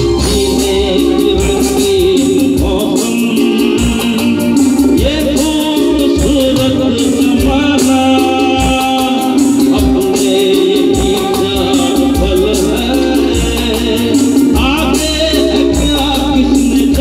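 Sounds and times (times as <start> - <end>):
electric guitars: 0.0 - 17.0
keyboard: 0.0 - 17.0
male singer: 0.0 - 17.0
percussion strikes: 0.0 - 17.0.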